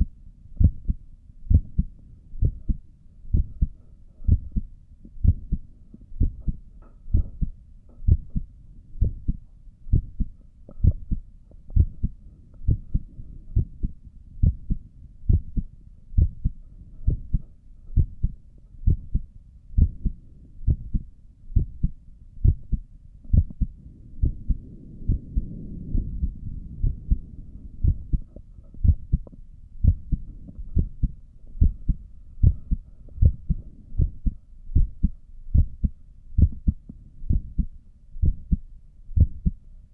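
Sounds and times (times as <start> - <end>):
heartbeat through stethoscope: 0.0 - 39.6
low muffled noise: 0.0 - 39.9.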